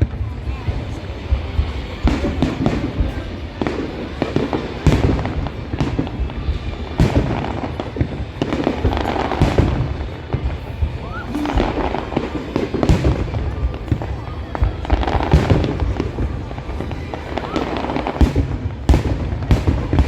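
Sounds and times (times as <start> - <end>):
fireworks bangs and booms: 0.0 - 20.0.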